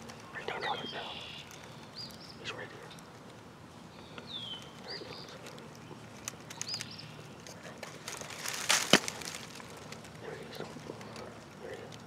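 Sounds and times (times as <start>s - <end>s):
songbird chirps: 0.0s - 12.0s.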